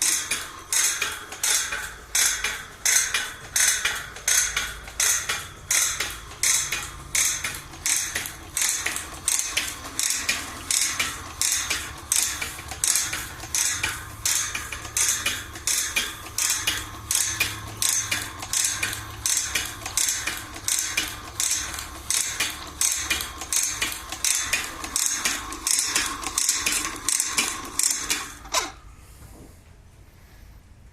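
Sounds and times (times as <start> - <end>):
sharp metallic clacks of machine: 0.0 - 28.8.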